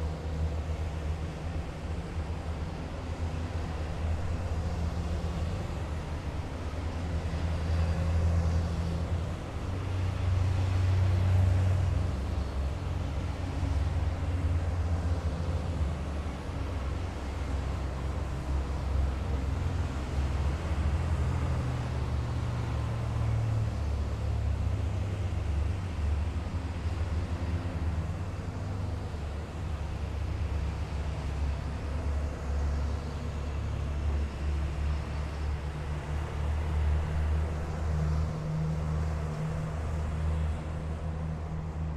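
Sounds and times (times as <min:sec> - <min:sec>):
heavy vehicles driving past: 0:00.0 - 0:41.9.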